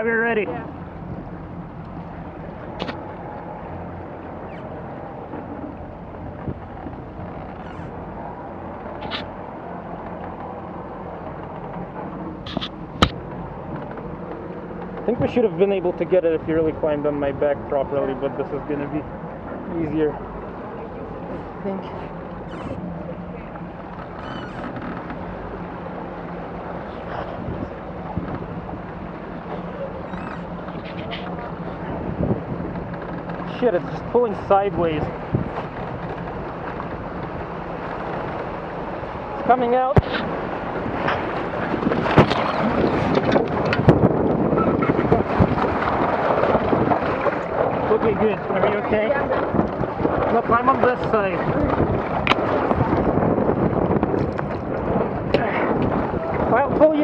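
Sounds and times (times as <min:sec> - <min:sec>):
motorboat engine running: 0:00.0 - 0:57.0
water washing around hull: 0:00.0 - 0:57.0
wind buffeting microphone: 0:00.0 - 0:57.0.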